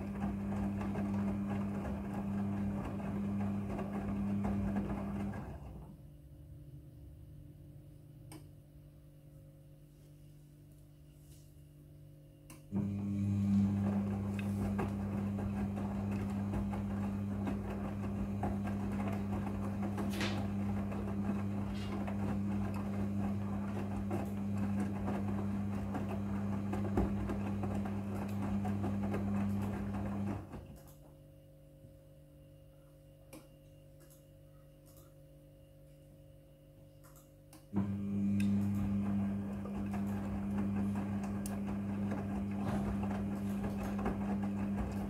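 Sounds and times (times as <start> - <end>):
washing machine motor hum: 0.0 - 9.6, 12.6 - 32.1, 37.1 - 45.0.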